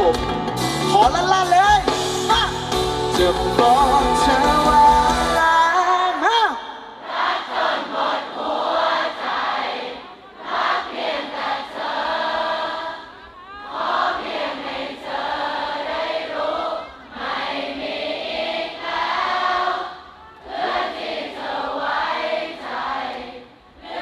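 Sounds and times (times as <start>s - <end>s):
crowd singing in unison: 3.1s - 24.0s.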